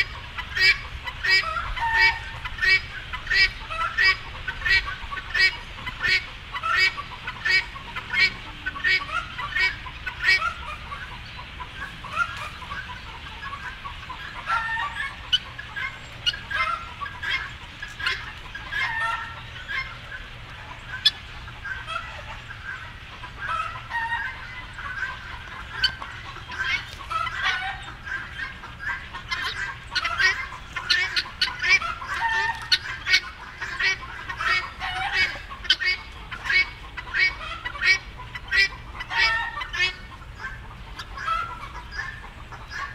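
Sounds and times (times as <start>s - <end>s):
flock of birds chattering: 0.0s - 42.9s.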